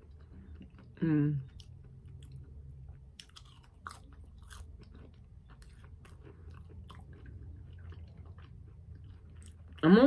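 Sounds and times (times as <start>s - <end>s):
person chewing a french fry: 0.0s - 9.8s.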